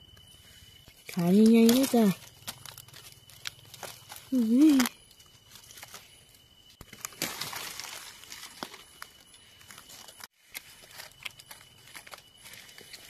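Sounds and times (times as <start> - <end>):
dry leaves rustling and crunching: 0.8 - 13.0.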